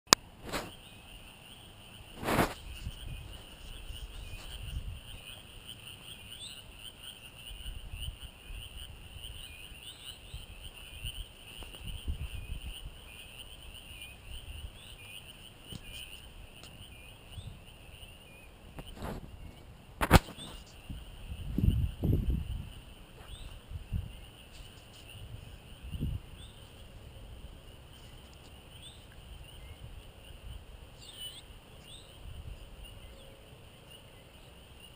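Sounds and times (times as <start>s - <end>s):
trilling crickets and frogs: 0.1s - 34.9s.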